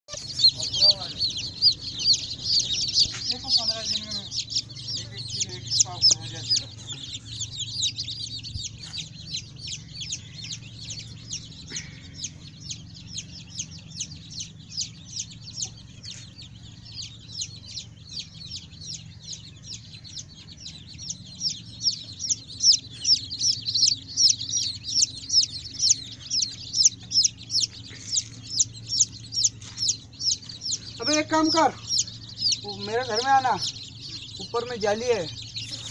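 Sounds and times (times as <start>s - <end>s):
chicks peeping: 0.1s - 35.9s.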